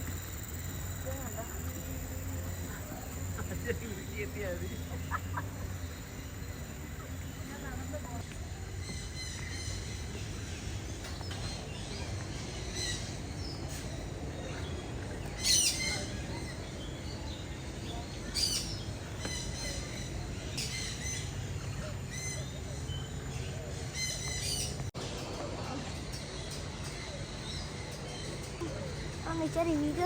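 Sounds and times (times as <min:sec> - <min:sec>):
birds calling: 0:00.0 - 0:30.0.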